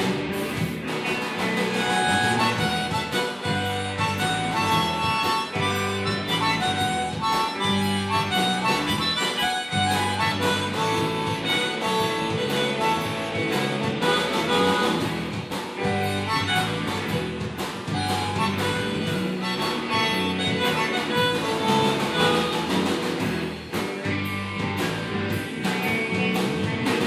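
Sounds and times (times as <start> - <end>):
blues band playing: 0.0 - 27.0
harmonica wailing: 1.3 - 23.6.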